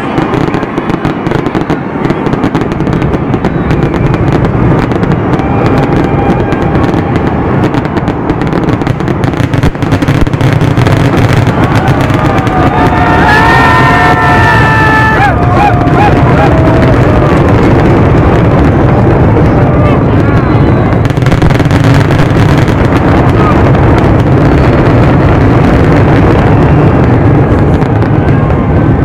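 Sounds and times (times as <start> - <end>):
fireworks bangs and crackling: 0.0 - 29.0
heavy low rumble: 0.0 - 29.0.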